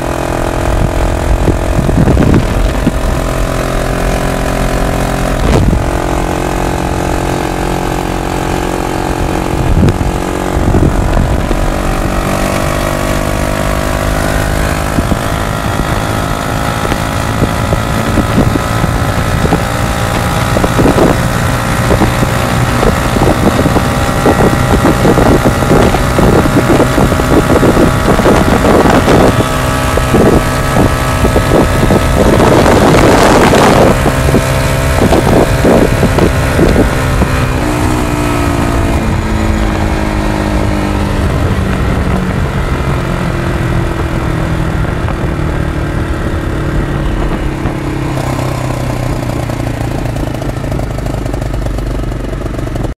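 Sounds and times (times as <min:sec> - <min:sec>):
engine running flat out: 0:00.0 - 0:53.0
heavy wind noise: 0:00.0 - 0:53.0.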